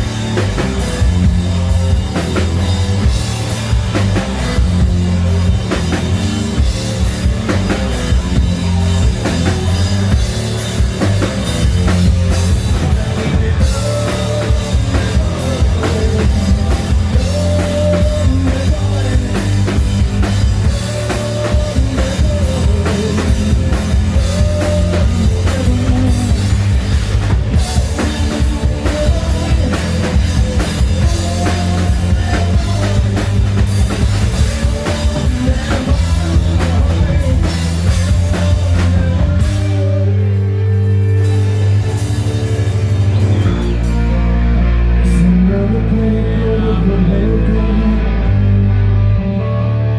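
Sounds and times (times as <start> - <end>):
hard rock band playing: 0.0 - 49.9.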